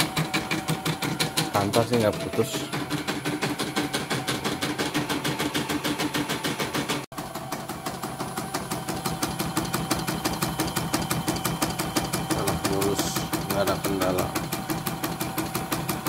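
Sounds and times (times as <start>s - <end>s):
embroidery machine needle clatter: 0.0s - 16.0s.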